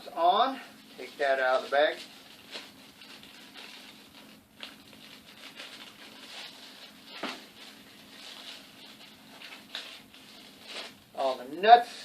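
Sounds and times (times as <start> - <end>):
plastic bag crinkling: 0.5 - 11.4.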